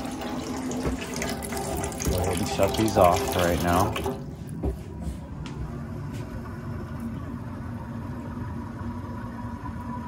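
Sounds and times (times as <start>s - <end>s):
water running into tank: 0.0s - 10.0s.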